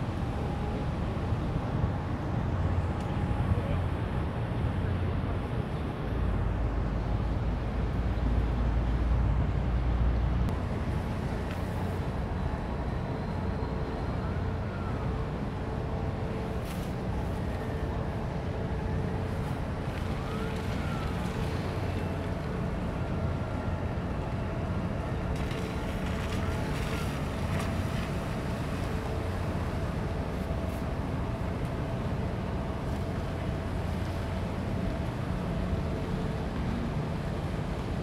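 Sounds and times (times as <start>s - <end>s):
large ship rumble and hum: 0.0s - 38.0s.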